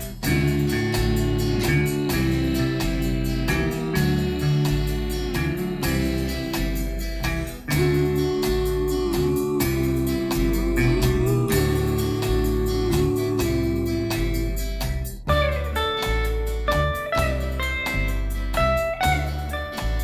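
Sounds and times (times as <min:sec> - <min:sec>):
guitar-led music with beat: 0:00.0 - 0:20.0.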